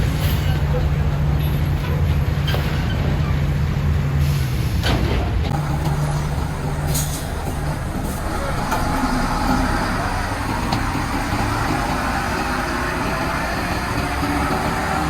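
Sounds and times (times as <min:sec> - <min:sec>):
diesel engine rumble: 0:00.0 - 0:15.0.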